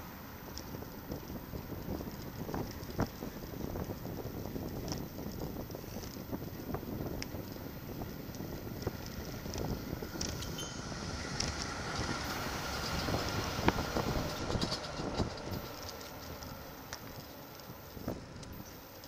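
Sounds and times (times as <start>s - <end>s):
bike knocking and rattling: 0.0s - 19.0s
wind and road rumble: 0.0s - 19.0s.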